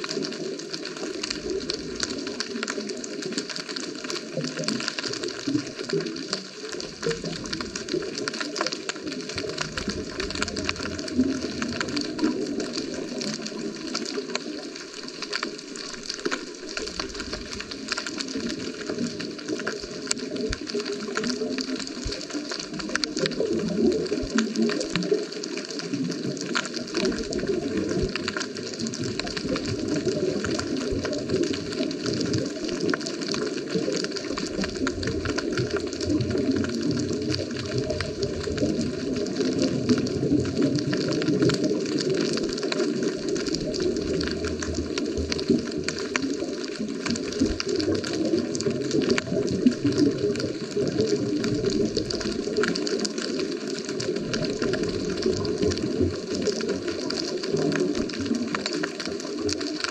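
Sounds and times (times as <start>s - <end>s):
small crackling clicks: 0.0s - 59.9s
underwater wash of water: 0.0s - 59.9s.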